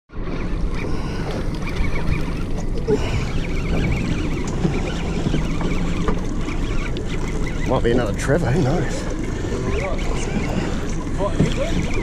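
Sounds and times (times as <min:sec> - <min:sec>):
water washing around hull: 0:00.1 - 0:12.0.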